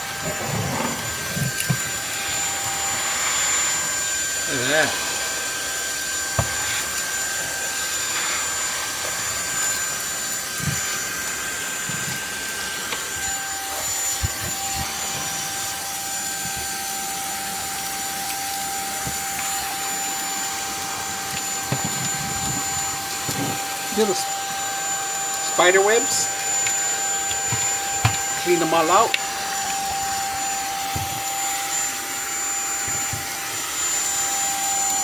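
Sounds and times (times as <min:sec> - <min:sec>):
lower whine: 0:00.0 - 0:35.0
stick vacuum cleaner running: 0:00.0 - 0:35.0.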